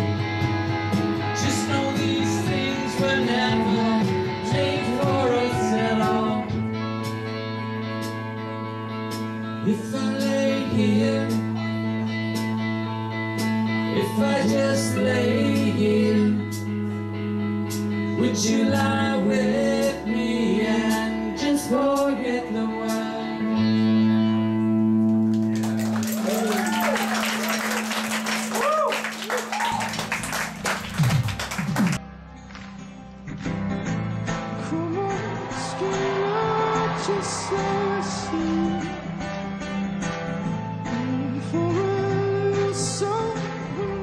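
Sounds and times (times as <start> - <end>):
guitar: 0.0 - 44.0.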